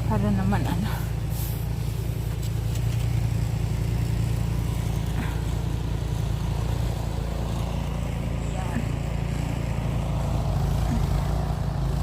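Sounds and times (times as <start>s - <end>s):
snow blower engine droning: 0.0s - 12.0s.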